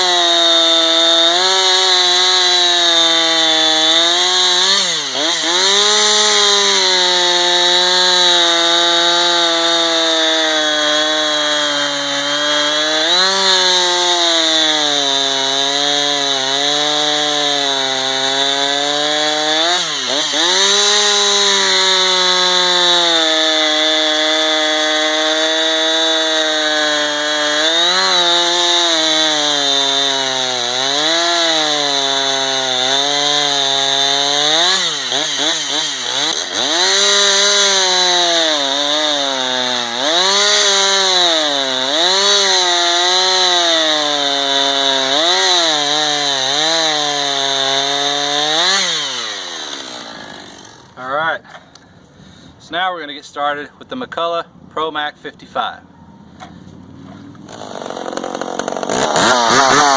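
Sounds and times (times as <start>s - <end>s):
chainsaw cutting wood: 0.0s - 51.9s, 56.4s - 59.9s.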